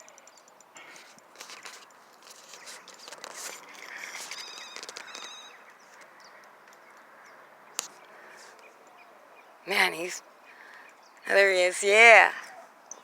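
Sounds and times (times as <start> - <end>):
outdoor background noise: 0.0 - 13.0
birds calling: 2.4 - 13.0.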